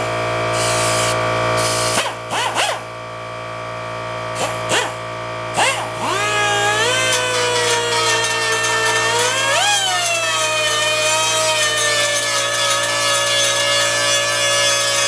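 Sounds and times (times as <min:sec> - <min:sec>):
pneumatic screwdriver whining: 0:00.5 - 0:02.9, 0:04.4 - 0:15.0.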